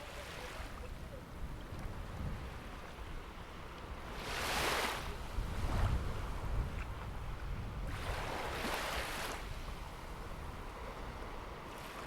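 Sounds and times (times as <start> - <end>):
sea waves washing onto beach: 0.0 - 12.0
wind rumble on microphone: 0.0 - 12.0.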